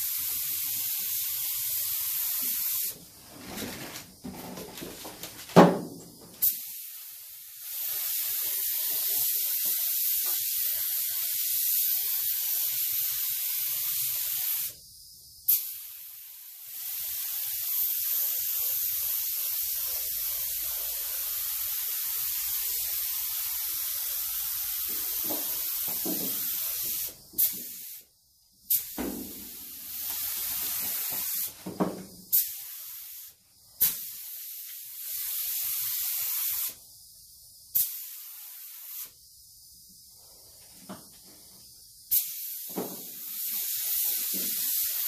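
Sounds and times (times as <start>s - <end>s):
paint spray gun hissing: 0.0s - 3.2s, 4.4s - 45.0s.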